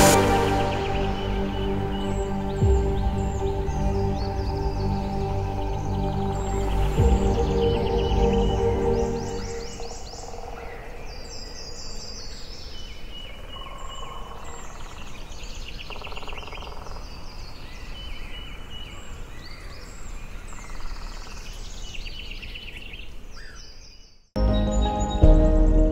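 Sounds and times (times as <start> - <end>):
birds chirping in trills: 0.0 - 25.7.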